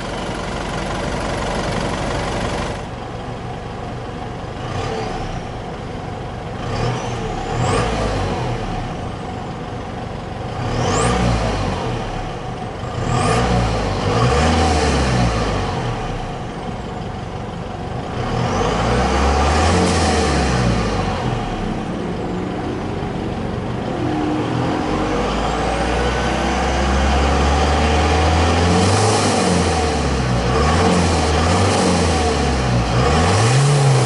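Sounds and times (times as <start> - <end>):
diesel engine idling and revving: 0.0 - 34.0.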